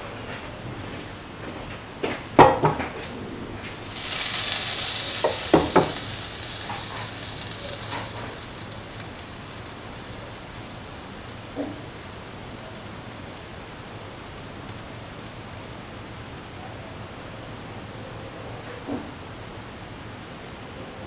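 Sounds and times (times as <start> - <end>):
oil sizzling in a pan: 3.8 - 20.7.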